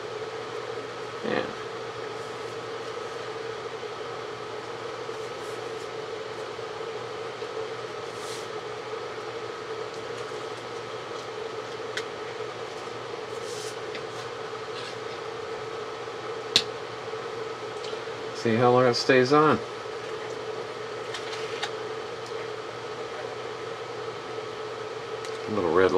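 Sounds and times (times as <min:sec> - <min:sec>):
machine hum with faint tone: 0:00.0 - 0:25.9.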